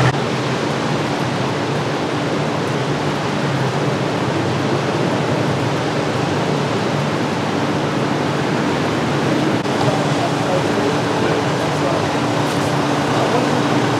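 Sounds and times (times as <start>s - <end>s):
wet street hiss: 0.0s - 13.9s.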